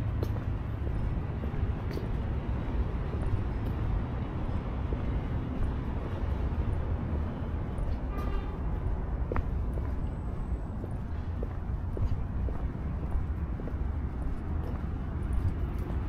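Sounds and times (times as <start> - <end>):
city street rumble: 0.0 - 16.0.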